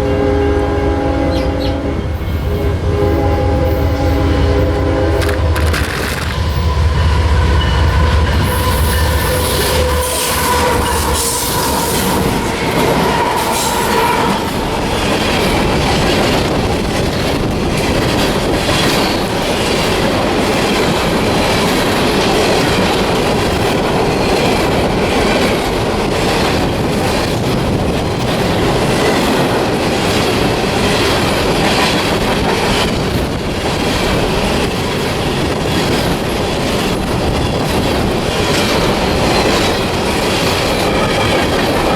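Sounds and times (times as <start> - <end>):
wind buffeting microphone: 0.0 - 41.9
train cars rolling clatter: 4.1 - 41.9.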